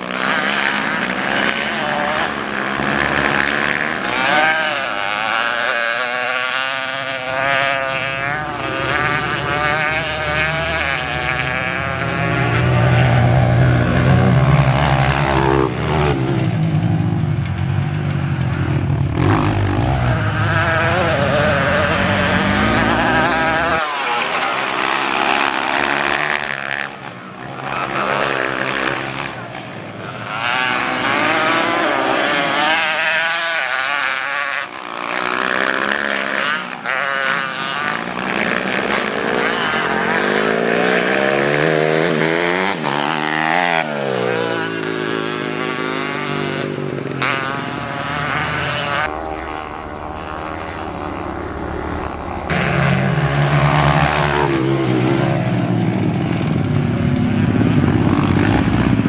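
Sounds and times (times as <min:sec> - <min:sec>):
motorcycle passing close by: 0:00.0 - 0:59.0
trail motorcycles revving: 0:00.0 - 0:59.0.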